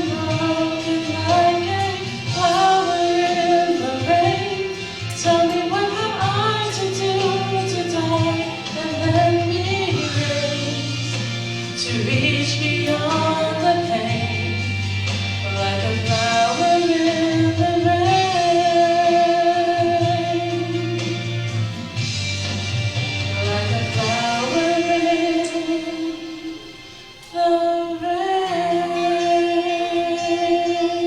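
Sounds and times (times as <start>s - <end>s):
instrumental accompaniment with bass: 0.0s - 31.0s
woman singing ballad: 0.0s - 31.0s.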